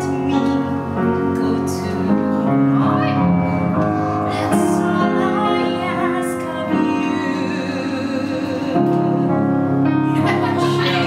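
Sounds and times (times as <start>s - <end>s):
woman singing operatically: 0.0s - 3.3s, 4.3s - 9.3s, 10.2s - 11.0s
piano accompaniment: 0.0s - 11.0s.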